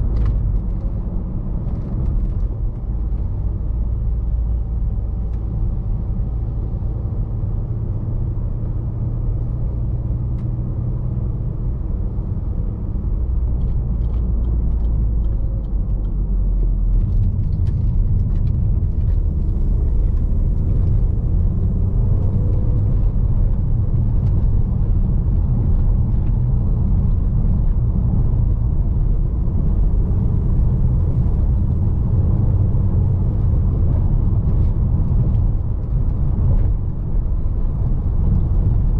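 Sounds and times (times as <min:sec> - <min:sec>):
engine and tyre rumble: 0:00.0 - 0:38.9.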